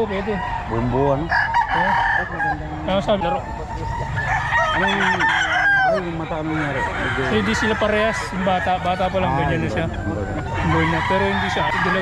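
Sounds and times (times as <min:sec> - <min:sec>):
roosters crowing: 0:00.0 - 0:12.0.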